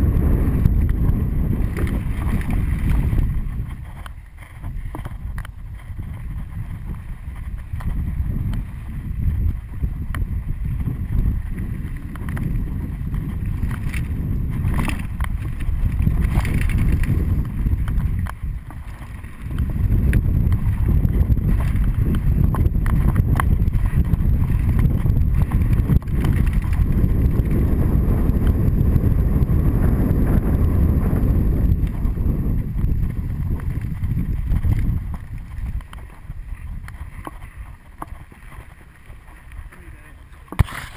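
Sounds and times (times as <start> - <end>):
bike tyres on dirt trail: 0.0 - 40.9
wind buffeting microphone: 0.0 - 40.9.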